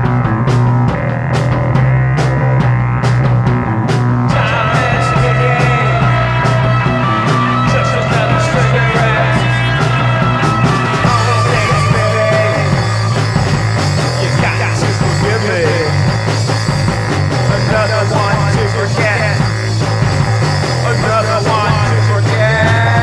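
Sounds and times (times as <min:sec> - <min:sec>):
punk rock band playing: 0:00.0 - 0:23.0
steady bass line: 0:00.0 - 0:23.0.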